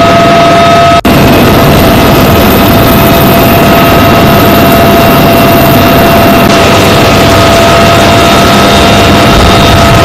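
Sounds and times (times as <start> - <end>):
helicopter turbine whine: 0.0 - 10.0
rotor and wind roar: 0.0 - 10.0.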